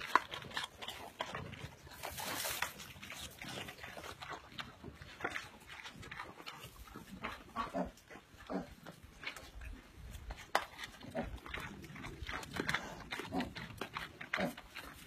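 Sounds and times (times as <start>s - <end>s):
clicks and smacks of eating: 0.0s - 7.5s, 8.9s - 15.0s
pig grunting: 0.0s - 9.3s, 10.9s - 15.0s.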